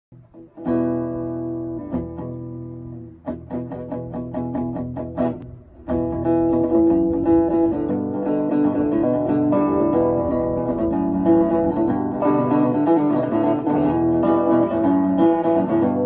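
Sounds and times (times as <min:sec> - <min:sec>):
electric guitar chords and notes: 0:00.2 - 0:16.0.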